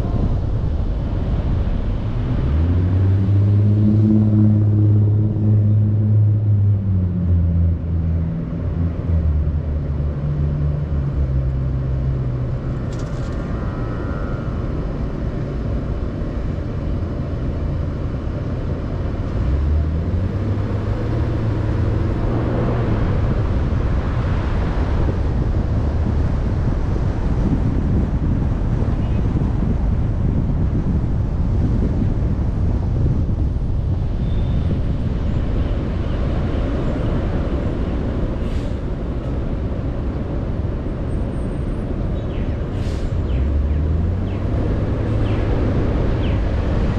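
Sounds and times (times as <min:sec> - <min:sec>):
car engine idling and accelerating: 0:00.0 - 0:46.9
road and tyre noise: 0:00.0 - 0:46.9.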